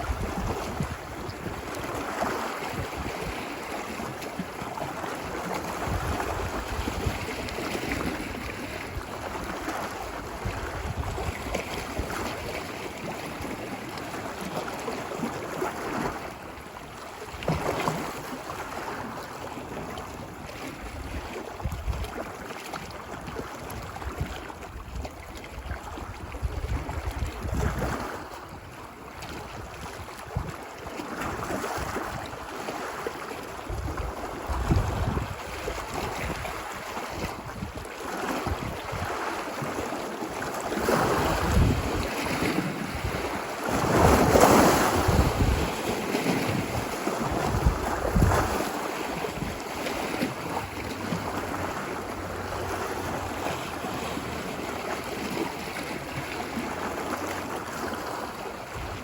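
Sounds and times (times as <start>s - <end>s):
wind rumbling on microphone: 0.0s - 16.2s, 16.9s - 22.4s, 23.1s - 30.6s, 33.5s - 59.0s
ocean surf washing ashore: 0.0s - 22.5s, 31.1s - 59.0s.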